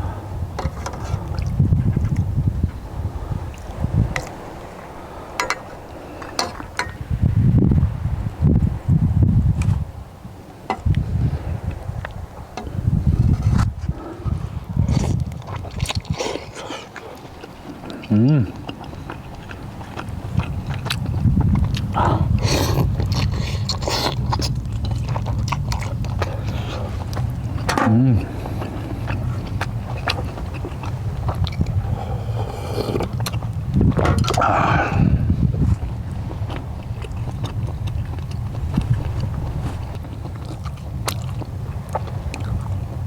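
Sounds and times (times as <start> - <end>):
steady low hum: 0.0 - 43.0
wet chewing clicks: 0.6 - 7.0, 11.6 - 43.0.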